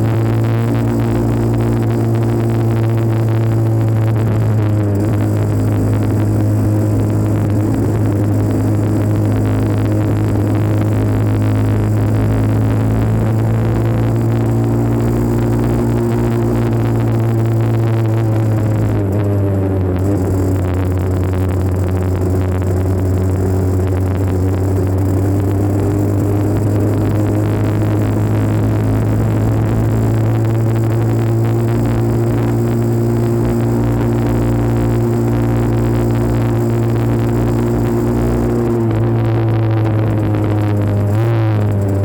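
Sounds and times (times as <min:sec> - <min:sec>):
two-stroke motorcycle engine running: 0:00.0 - 0:42.0.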